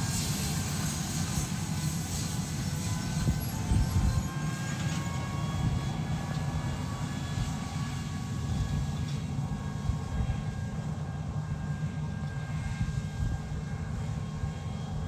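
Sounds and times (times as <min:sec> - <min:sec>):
faint steady whines: 0:00.0 - 0:15.0.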